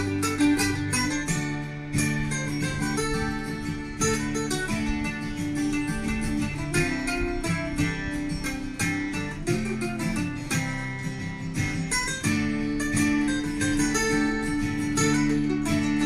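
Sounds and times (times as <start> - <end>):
acoustic guitar tune: 0.0 - 16.0.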